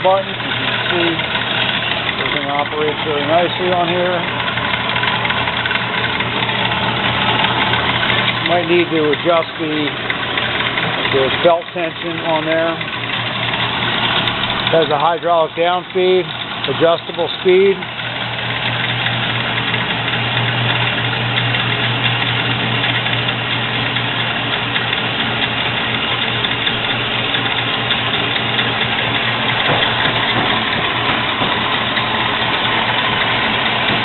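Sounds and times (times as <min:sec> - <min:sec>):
band saw cutting: 0:00.0 - 0:34.0.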